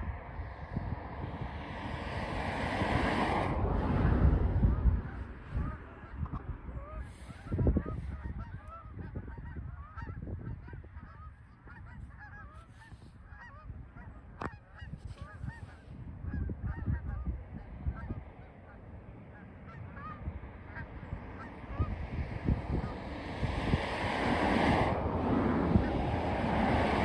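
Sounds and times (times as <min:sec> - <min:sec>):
wind on microphone: 0:00.0 - 0:27.0
geese honking: 0:04.6 - 0:23.4, 0:24.0 - 0:27.0.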